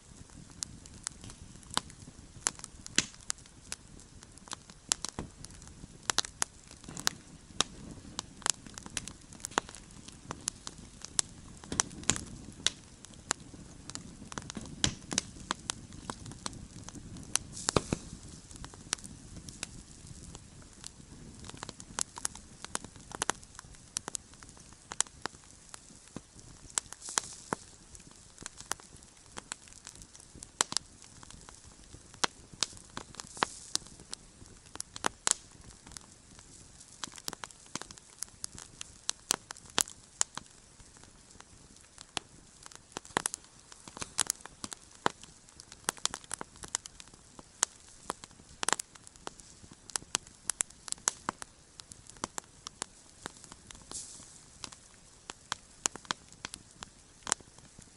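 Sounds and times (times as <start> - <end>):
campfire crackling and popping: 0.0 - 57.9
low steady hiss: 0.0 - 57.9.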